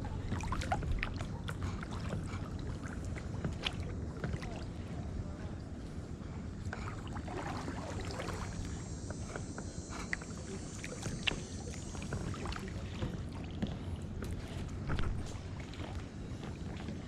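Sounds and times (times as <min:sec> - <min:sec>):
paddle splashes and drips: 0:00.0 - 0:06.0, 0:06.6 - 0:17.0
steady low rumble: 0:00.0 - 0:17.0.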